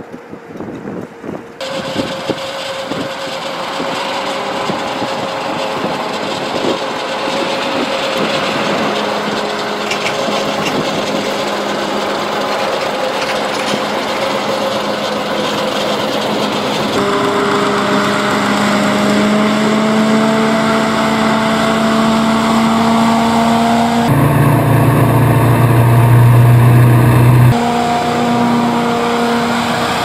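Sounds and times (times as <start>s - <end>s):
hovercraft engine and fan running: 0.0s - 30.0s.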